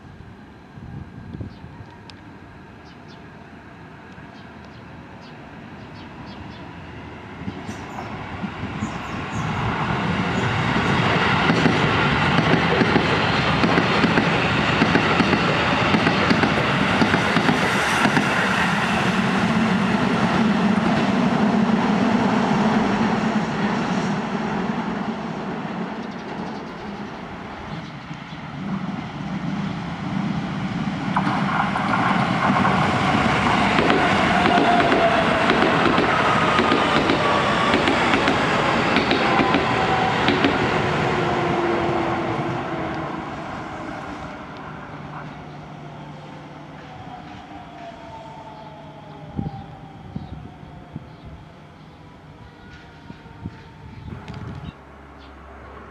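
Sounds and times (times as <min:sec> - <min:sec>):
train running whine: 0:00.0 - 0:55.9
train wheels rumbling on rail: 0:04.0 - 0:55.9.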